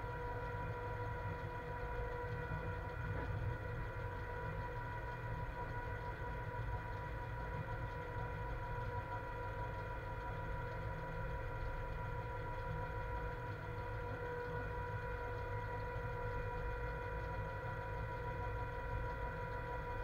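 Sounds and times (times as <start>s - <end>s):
steady pitched electric hum: 0.0s - 20.0s.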